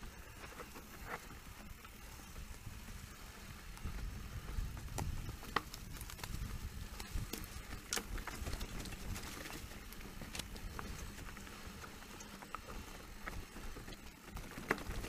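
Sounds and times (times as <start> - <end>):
bike rattling over bumps: 0.0 - 15.0
tyres rumbling on dirt trail: 0.0 - 15.0.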